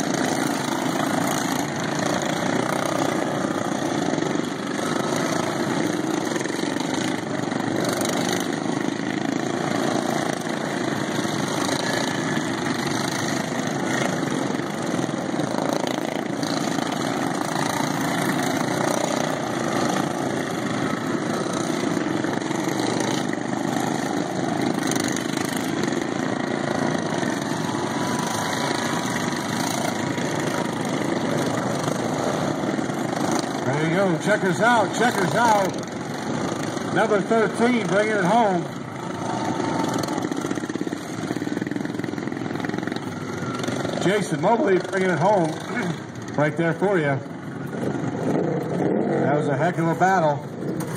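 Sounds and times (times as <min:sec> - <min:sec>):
racing lawn mower engines: 0:00.0 - 0:50.9.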